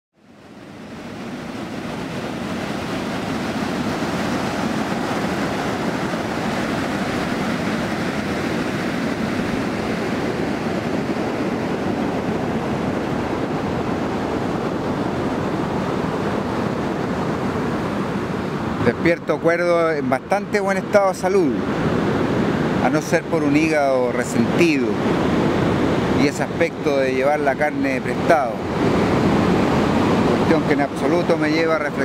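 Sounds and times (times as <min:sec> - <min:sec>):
ocean surf on a beach: 0:00.2 - 0:32.0
wind on microphone: 0:00.4 - 0:19.0, 0:21.4 - 0:32.0.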